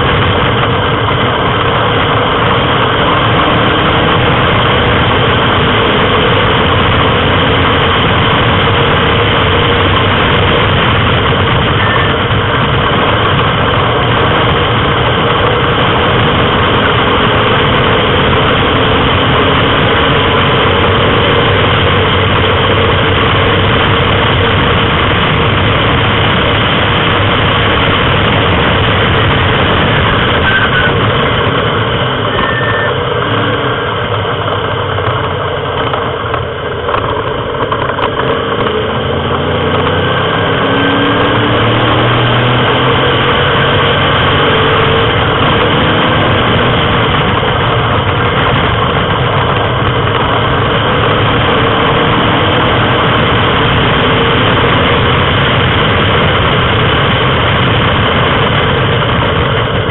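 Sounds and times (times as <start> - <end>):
race car engine droning: 0.0 - 59.9.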